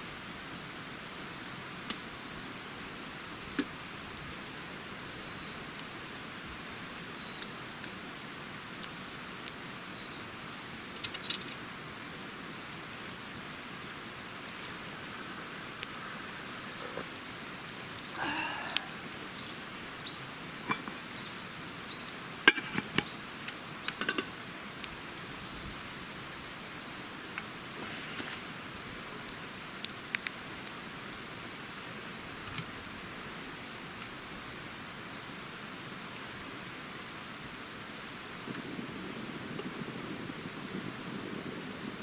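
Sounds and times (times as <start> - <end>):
rain pattering: 0.0 - 42.0.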